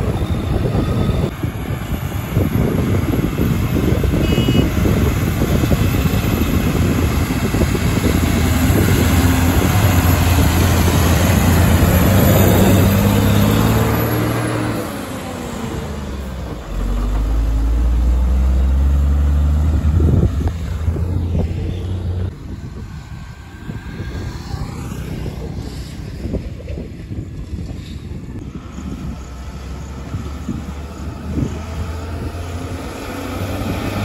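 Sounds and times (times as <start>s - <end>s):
diesel engines revving under load: 0.0s - 22.4s, 27.7s - 34.0s.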